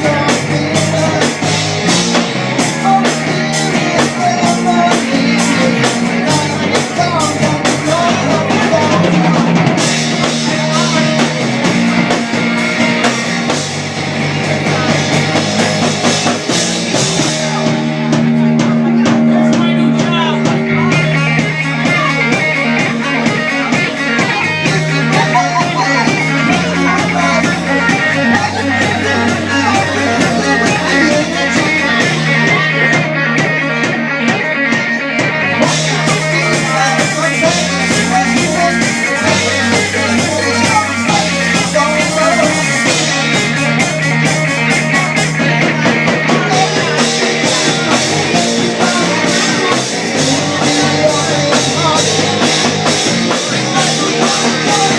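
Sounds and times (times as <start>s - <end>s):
bass guitar: 0.0s - 54.9s
drum kit: 0.0s - 54.9s
electric guitar: 0.0s - 54.9s.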